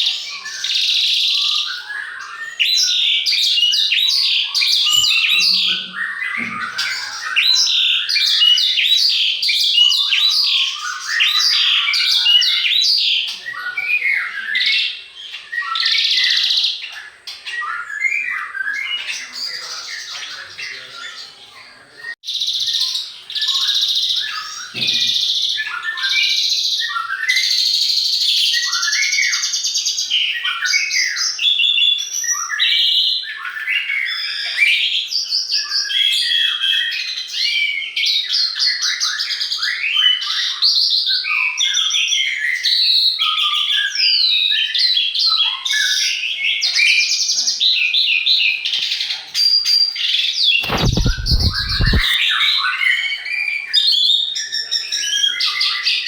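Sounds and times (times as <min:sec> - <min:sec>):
songbirds chirping and whistling: 0:00.0 - 0:56.0.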